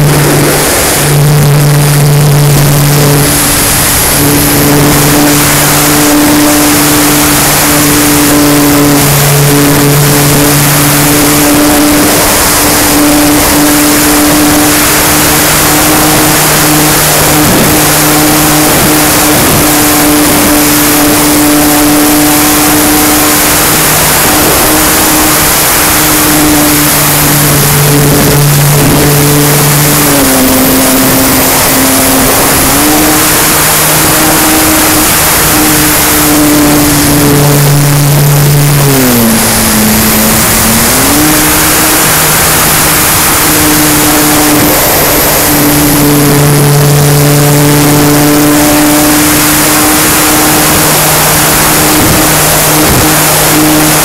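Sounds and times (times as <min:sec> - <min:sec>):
electric motor and propeller whine: 0:00.0 - 0:54.0
rushing air: 0:00.0 - 0:54.0.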